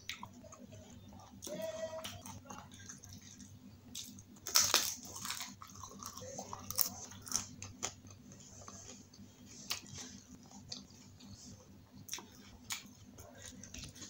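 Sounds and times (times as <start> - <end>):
close-up chewing with crunches: 0.0 - 14.0.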